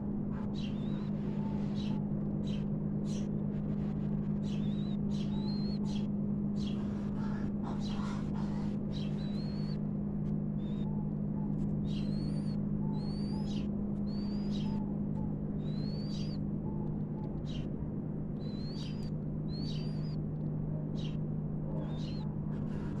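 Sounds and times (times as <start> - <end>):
low electrical hum: 0.0 - 23.0
small bird chirping: 0.5 - 3.3, 4.4 - 9.8, 10.6 - 17.7, 18.4 - 20.2, 20.9 - 21.2, 21.8 - 23.0.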